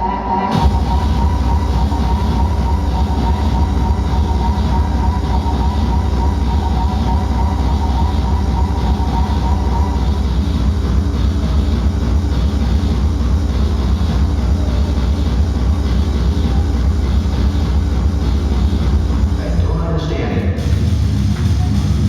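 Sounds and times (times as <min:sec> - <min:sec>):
heavy bass: 0:00.0 - 0:22.0
loud distorted hard dance music: 0:00.0 - 0:22.0.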